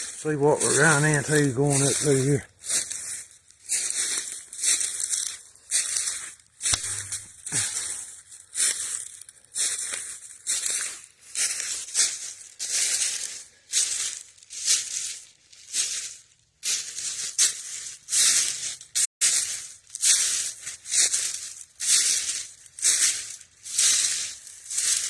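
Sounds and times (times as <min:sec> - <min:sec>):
footsteps crunching through dry leaves: 0:00.0 - 0:25.0.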